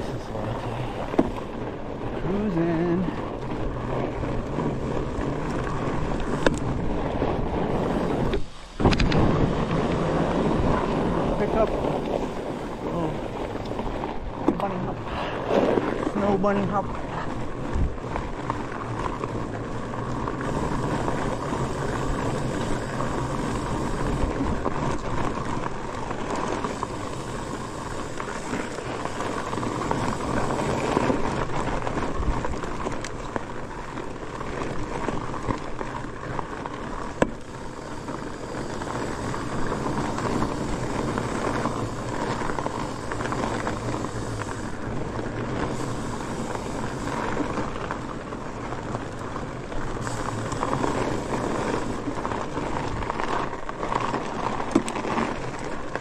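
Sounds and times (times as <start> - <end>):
bike tires rolling on snow: 0.0 - 56.0.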